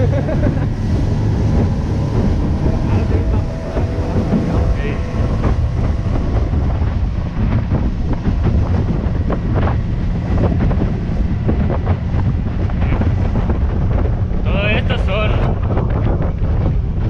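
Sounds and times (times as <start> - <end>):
outboard motor: 0.0 - 17.0
water rushing and spray: 0.0 - 17.0
wind buffeting microphone: 0.0 - 17.0.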